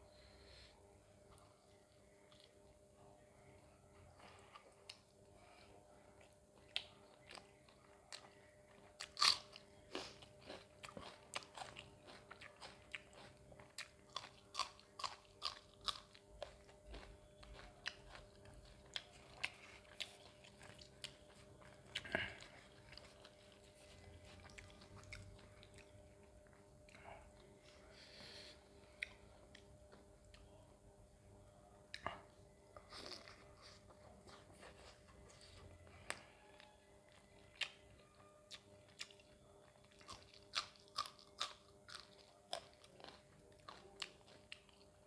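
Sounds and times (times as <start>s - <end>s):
person crunching and chewing food: 4.2s - 27.9s, 31.9s - 45.0s.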